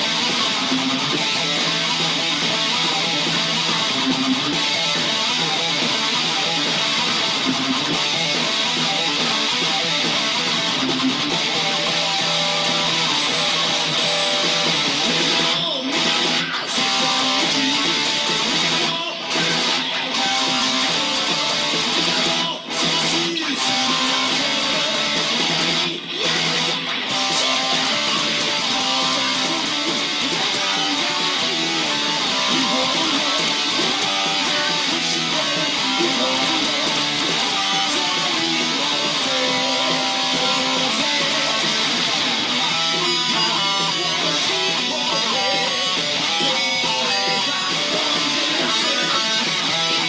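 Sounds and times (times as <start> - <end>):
electric guitar heavy metal riff: 0.0 - 50.0.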